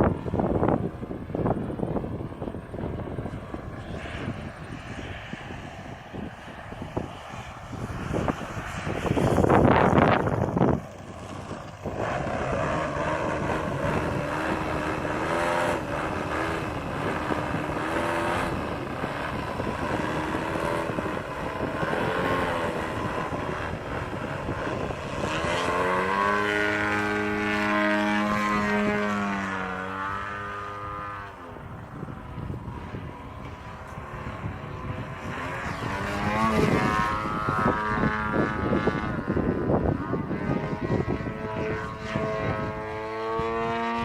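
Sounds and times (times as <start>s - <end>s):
model plane engine: 0.0s - 44.0s.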